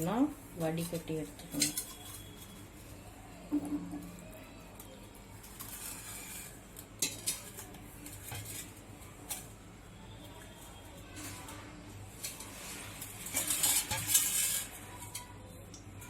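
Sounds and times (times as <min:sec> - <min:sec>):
pots and utensils clinking: 0:00.8 - 0:02.6, 0:03.5 - 0:09.6, 0:10.2 - 0:16.0.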